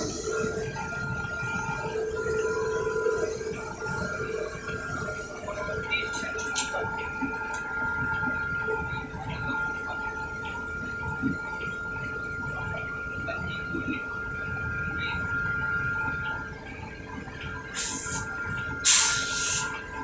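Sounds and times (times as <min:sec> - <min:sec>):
high-pitched whine: 0:00.0 - 0:20.0
locomotive engine rumble: 0:00.0 - 0:20.0.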